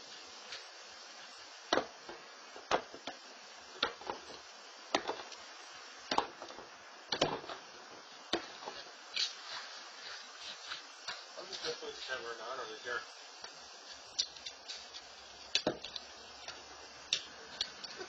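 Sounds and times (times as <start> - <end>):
low steady hiss: 0.0 - 18.0.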